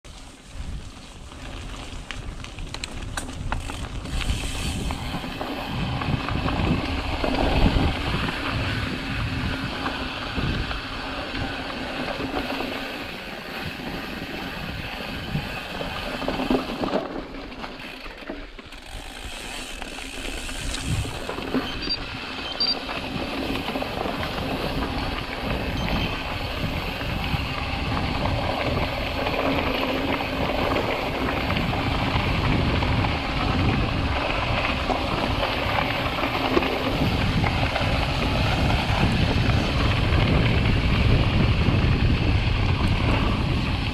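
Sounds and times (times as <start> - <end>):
bike tyres rolling on gravel: 0.0 - 43.9
bike clattering over bumps: 1.2 - 43.9.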